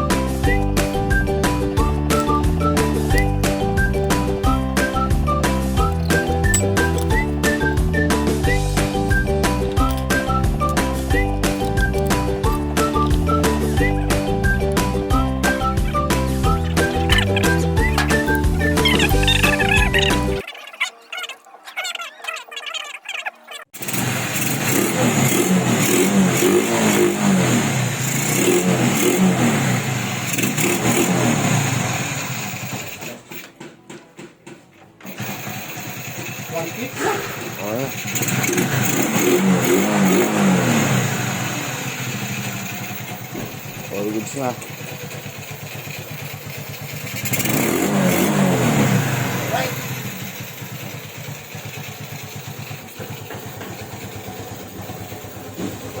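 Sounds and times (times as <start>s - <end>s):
motorcycle engine revving: 0.0s - 20.4s, 23.8s - 33.4s, 35.0s - 56.0s.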